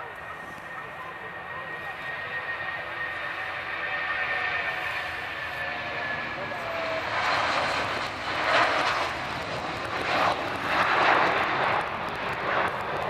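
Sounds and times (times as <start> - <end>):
jet engines at takeoff thrust: 0.0 - 13.0.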